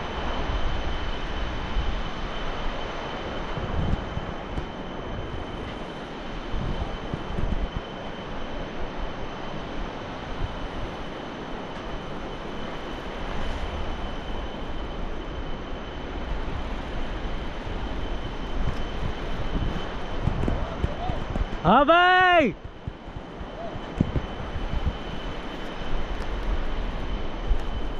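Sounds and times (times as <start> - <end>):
wind buffeting microphone: 0.0 - 21.7, 22.5 - 27.9.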